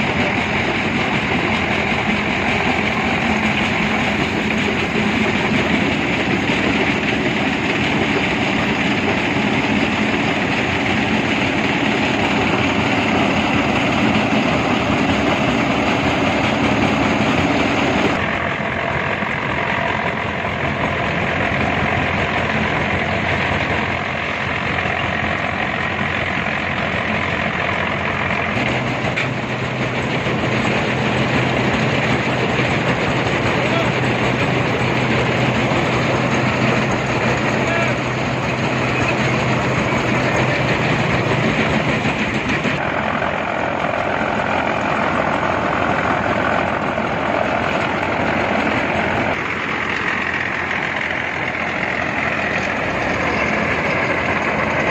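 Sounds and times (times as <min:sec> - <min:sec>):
construction machinery din: 0:00.0 - 0:54.9.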